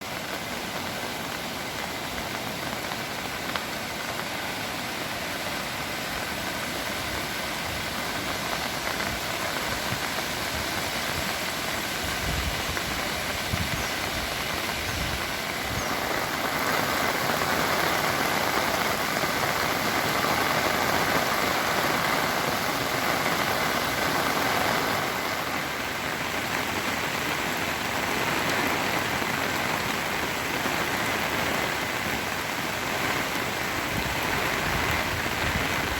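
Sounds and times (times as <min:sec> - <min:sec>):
rushing floodwater: 0:00.0 - 0:35.9.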